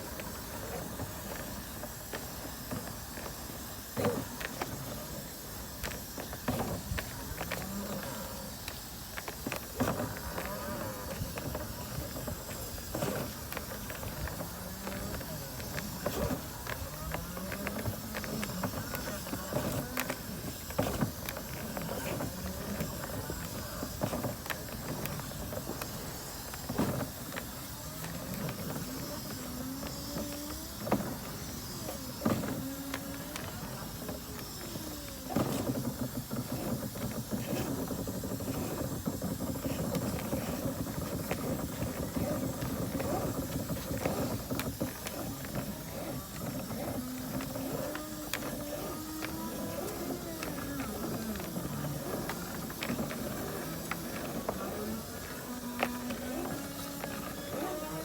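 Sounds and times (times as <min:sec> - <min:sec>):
electric motor whine rising and falling: 0:00.0 - 0:58.0.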